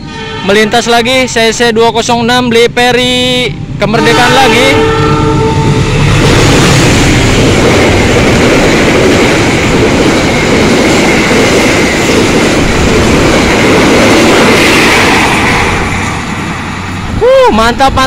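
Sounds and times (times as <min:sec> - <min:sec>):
diesel locomotive passing: 0:00.0 - 0:18.0
steel wheels rushing on rails: 0:00.0 - 0:18.0.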